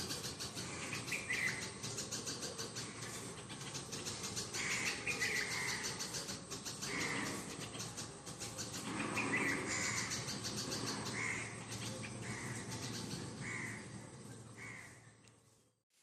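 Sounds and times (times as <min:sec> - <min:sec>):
birds calling: 0:00.0 - 0:15.6.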